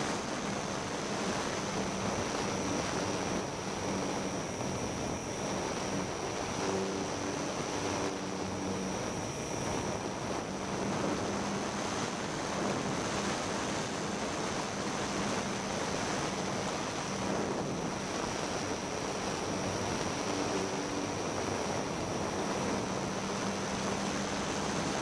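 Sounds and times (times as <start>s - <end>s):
faint high-pitched whine: 0.0s - 25.0s
faint low hum: 0.0s - 25.0s.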